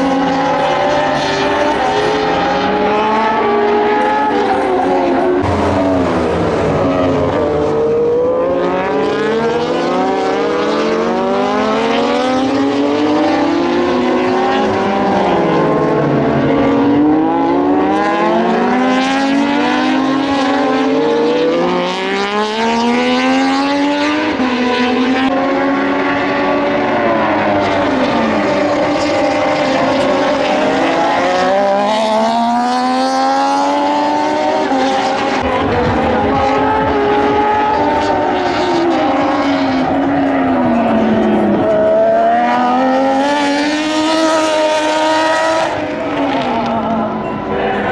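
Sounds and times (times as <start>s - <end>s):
motorcycle engines revving: 0.0s - 47.9s.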